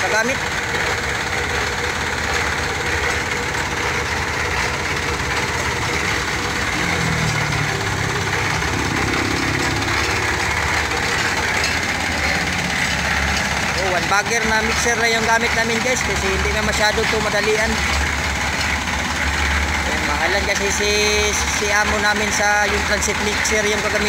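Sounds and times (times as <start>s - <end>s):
concrete mixer running: 0.0s - 24.0s.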